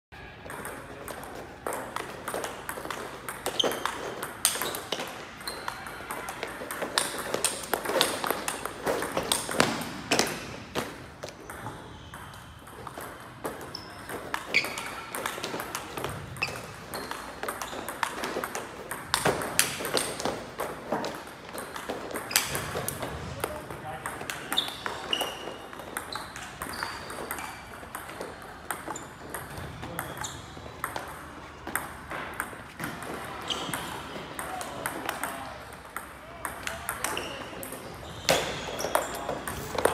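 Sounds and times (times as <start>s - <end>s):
ping pong ball bouncing on table: 0.4s - 39.9s
ping pong ball hitting paddles: 0.4s - 39.9s.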